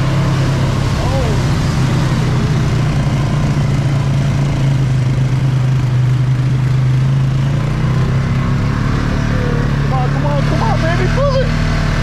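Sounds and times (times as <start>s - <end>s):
atv engine running: 0.0s - 12.0s
water splashing around wheels: 0.0s - 12.0s.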